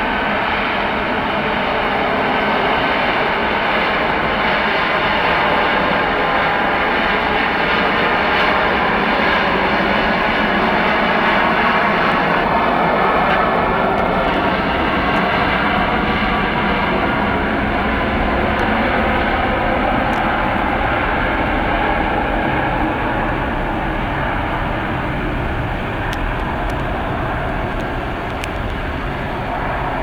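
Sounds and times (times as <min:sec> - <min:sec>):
airliner engines running: 0:00.0 - 0:30.0
engine whine: 0:00.0 - 0:30.0.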